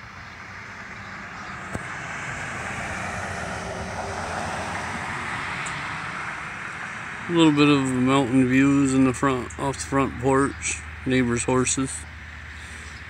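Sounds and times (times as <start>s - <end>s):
distant passing vehicle rushing: 0.1s - 13.0s.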